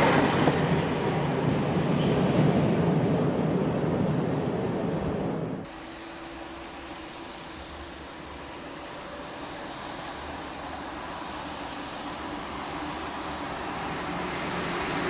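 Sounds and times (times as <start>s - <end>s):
diesel railcar engine drone: 0.0s - 15.0s.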